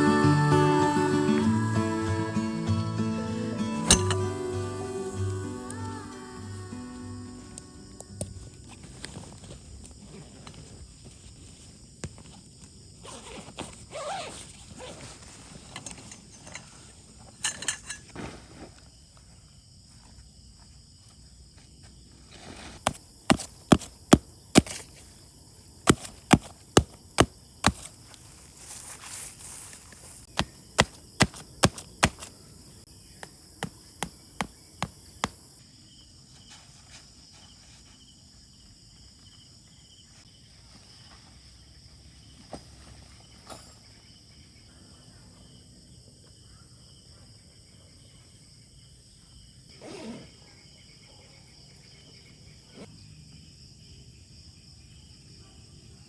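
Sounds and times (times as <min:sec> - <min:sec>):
insects trilling: 0:00.0 - 0:17.8, 0:18.8 - 0:55.2.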